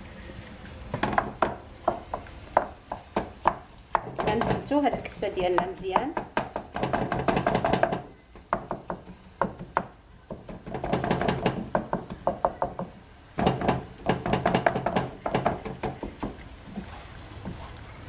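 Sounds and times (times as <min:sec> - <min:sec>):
wooden spatula tapping frying pan: 0:00.9 - 0:17.6.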